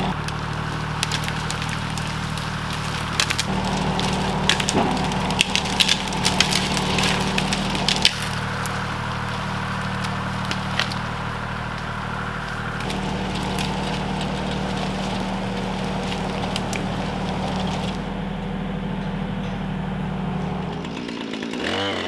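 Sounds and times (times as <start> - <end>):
power tool running: 0.0 - 22.0
wood cracking and splintering: 0.0 - 22.0.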